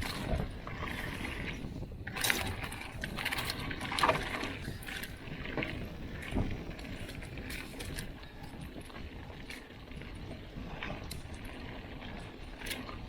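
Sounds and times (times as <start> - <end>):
bike rattling over bumps: 0.0 - 13.0
bike tyres rumbling on dirt: 0.0 - 13.0
wind rushing over microphone: 0.0 - 13.0.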